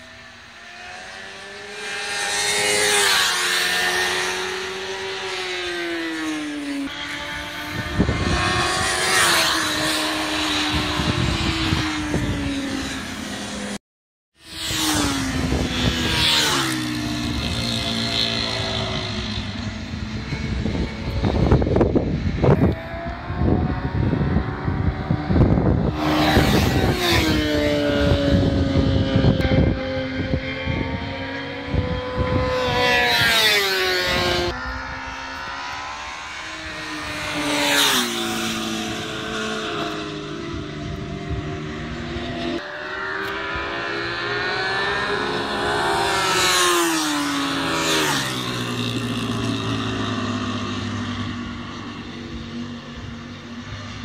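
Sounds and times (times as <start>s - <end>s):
racing motorcycles passing: 0.0s - 13.8s, 14.4s - 54.0s.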